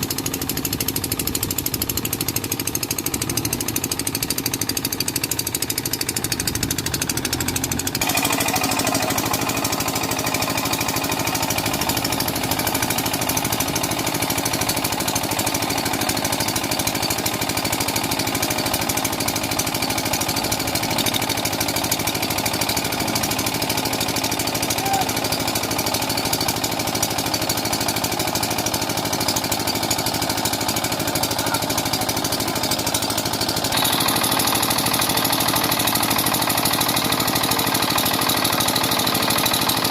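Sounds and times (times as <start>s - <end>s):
diesel engine rattling: 0.0s - 39.9s.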